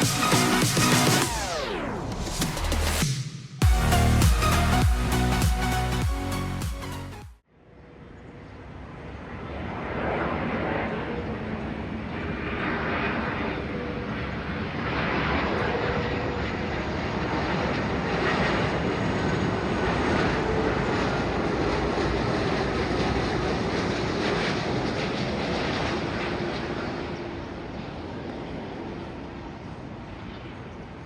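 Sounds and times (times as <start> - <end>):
jet engines rushing and rumbling: 0.0 - 6.6, 8.0 - 31.0.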